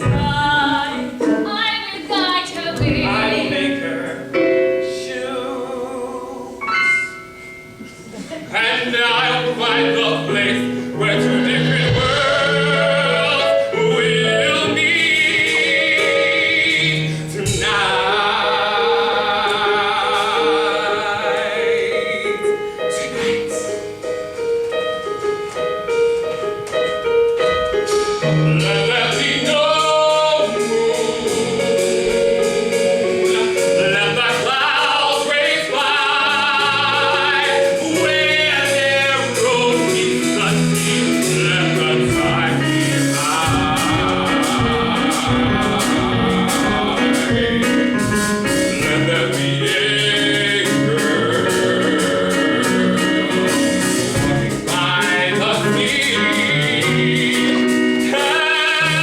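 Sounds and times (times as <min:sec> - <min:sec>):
singers holding notes with vibrato: 0:00.0 - 0:24.4, 0:27.7 - 0:59.0
instrumental accompaniment: 0:00.0 - 0:59.0.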